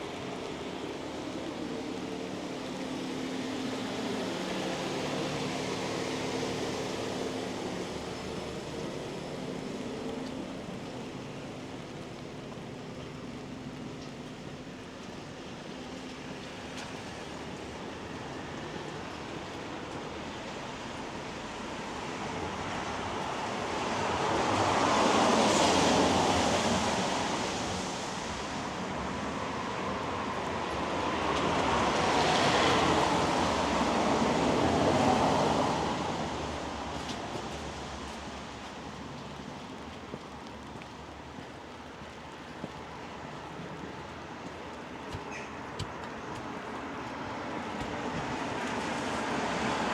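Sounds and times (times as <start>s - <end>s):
rain hiss: 0.0s - 49.9s
traffic on wet road: 0.0s - 49.9s.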